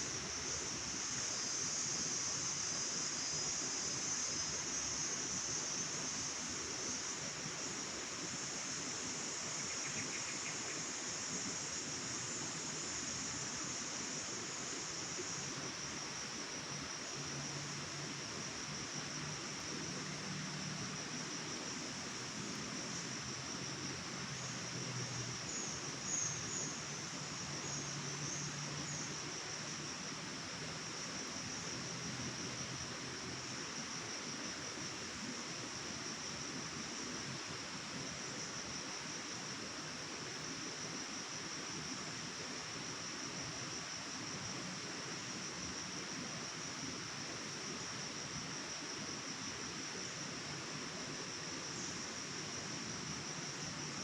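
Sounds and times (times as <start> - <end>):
background hiss: 0.0 - 54.0
crickets trilling: 0.0 - 54.0
higher insect chirps: 0.0 - 54.0.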